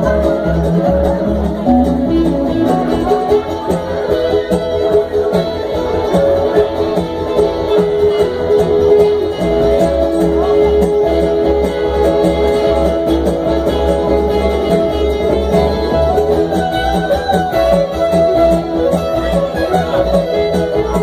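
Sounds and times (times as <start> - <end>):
fiddle: 0.0 - 21.0
strummed acoustic guitar: 0.0 - 21.0
upright bass: 0.0 - 21.0.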